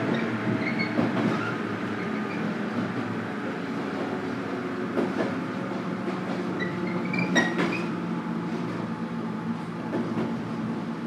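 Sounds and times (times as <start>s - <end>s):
train low hum: 0.0s - 11.0s.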